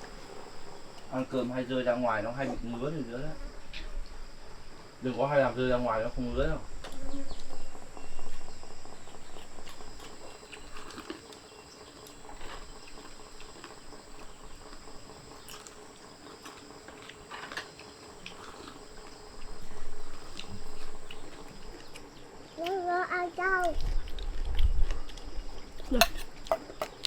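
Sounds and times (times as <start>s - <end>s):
crickets singing: 0.0s - 27.0s.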